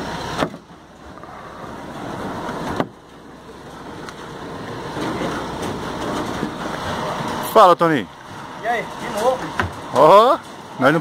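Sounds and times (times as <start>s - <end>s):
outdoor engine rumble: 0.0s - 11.0s.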